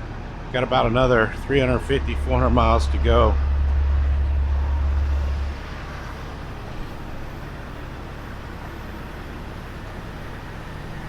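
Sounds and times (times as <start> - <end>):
vehicle noise: 0.0 - 11.0.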